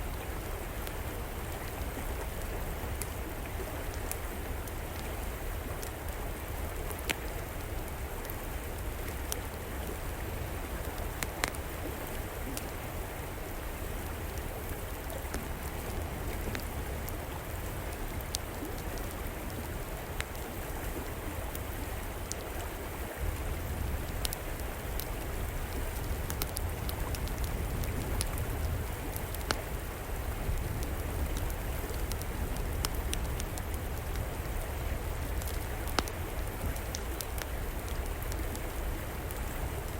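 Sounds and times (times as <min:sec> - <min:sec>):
river water flowing: 0:00.0 - 0:39.9
fire crackling: 0:00.2 - 0:39.9.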